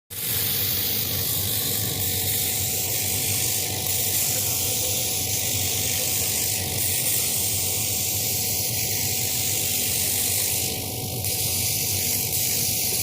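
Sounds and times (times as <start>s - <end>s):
laser cutting machine hiss: 0.1s - 13.0s.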